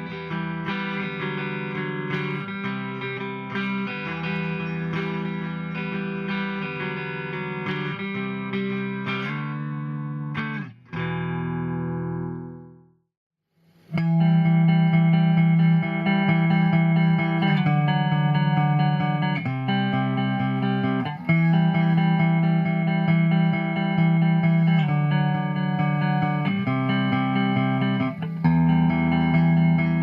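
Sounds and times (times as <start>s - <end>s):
electric guitar riff: 0.0s - 12.8s, 13.9s - 30.0s.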